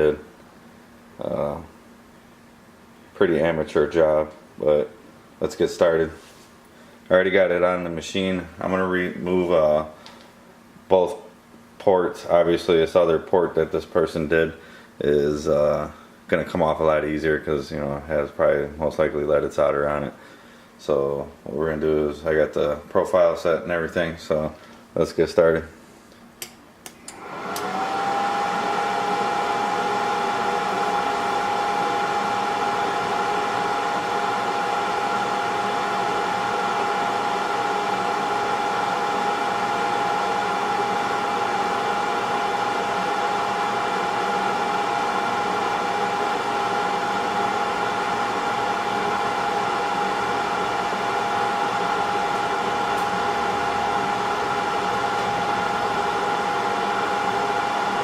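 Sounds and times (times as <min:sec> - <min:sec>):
hot-air blower whine: 0:00.0 - 0:58.0.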